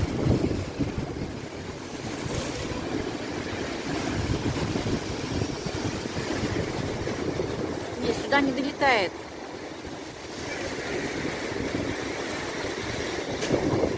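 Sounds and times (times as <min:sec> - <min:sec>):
waves surging and breaking: 0:00.0 - 0:13.9
wind buffeting microphone: 0:00.0 - 0:13.9.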